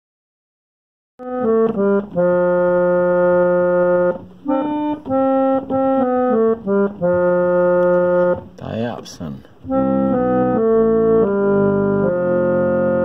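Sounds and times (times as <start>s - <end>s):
reed organ playing: 1.2s - 13.0s.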